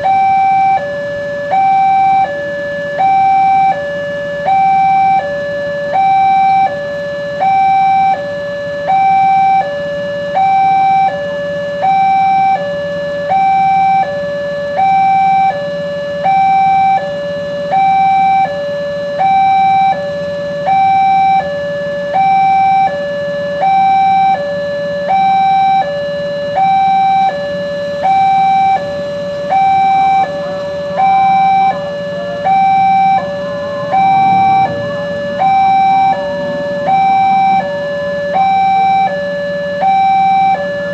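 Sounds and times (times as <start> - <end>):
two-tone level crossing alarm: 0.0 - 40.9.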